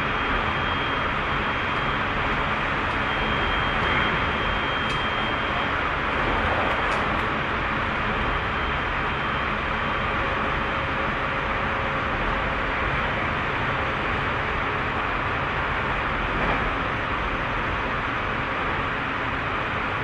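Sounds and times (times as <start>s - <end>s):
train wheel and running noise: 0.0s - 20.0s.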